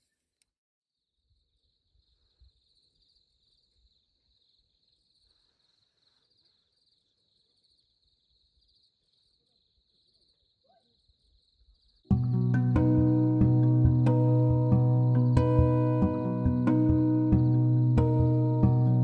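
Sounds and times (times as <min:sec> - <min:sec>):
night insects chirring: 0:01.6 - 0:19.0.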